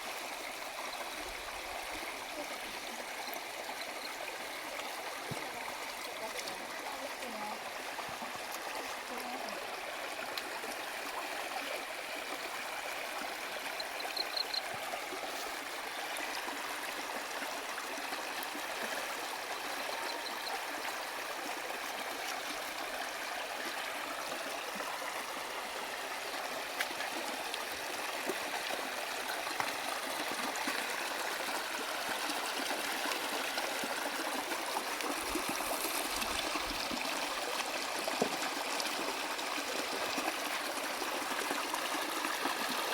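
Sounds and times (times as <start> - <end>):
stream flowing over rocks: 0.0 - 42.9.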